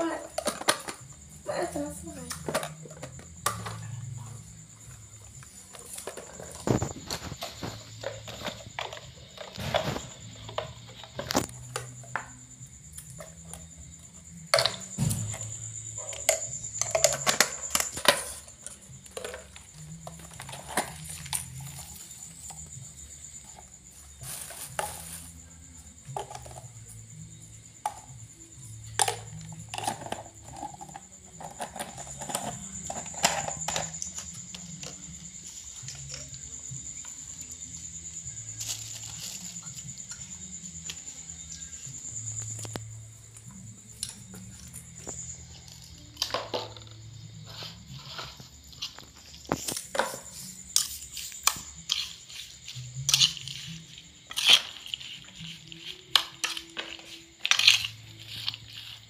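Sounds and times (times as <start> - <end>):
plastic jars being handled: 0.0 - 59.0
quiet background music: 0.0 - 59.0.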